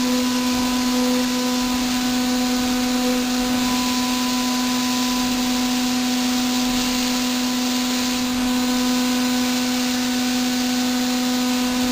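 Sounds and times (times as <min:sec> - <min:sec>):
milling machine hum: 0:00.0 - 0:11.9.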